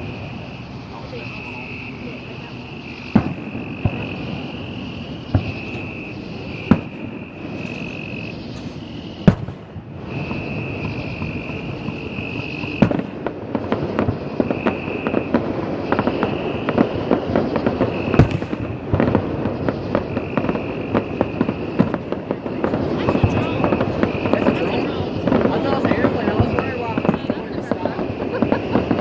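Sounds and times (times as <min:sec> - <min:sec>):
firework crackle: 0:00.0 - 0:29.0
firework shells bursting: 0:00.0 - 0:29.0.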